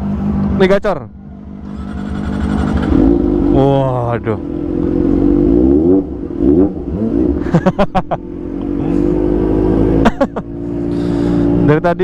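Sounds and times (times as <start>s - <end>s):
motorcycle engine revving: 1.5s - 11.8s.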